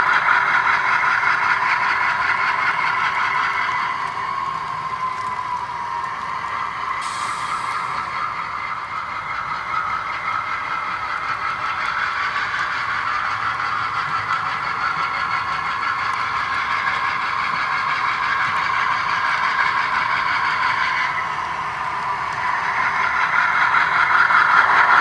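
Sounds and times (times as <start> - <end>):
model train diesel engine sound: 0.0 - 25.0.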